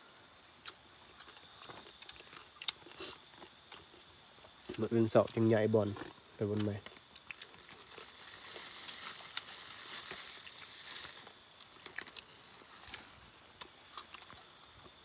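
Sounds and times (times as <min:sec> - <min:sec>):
rustling of food on leaves: 0:00.6 - 0:15.0.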